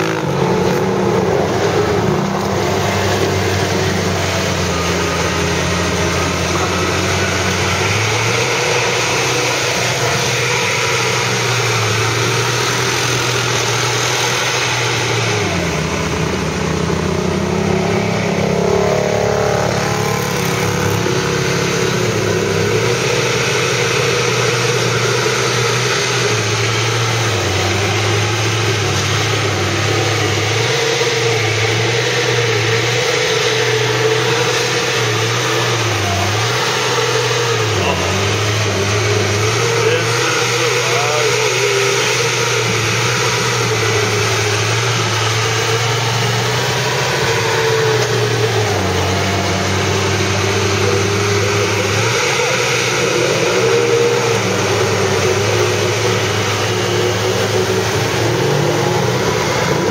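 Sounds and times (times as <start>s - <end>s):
quad engines idling: 0.0s - 59.9s
quad revving past: 0.0s - 59.9s.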